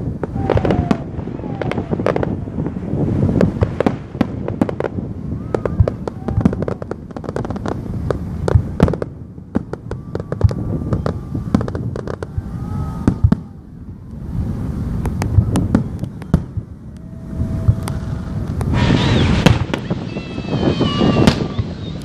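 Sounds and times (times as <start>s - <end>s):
faint fireworks whistles: 0.0s - 22.0s
fireworks bangs and crackles: 0.0s - 22.0s
low rumble of booms: 0.0s - 22.0s.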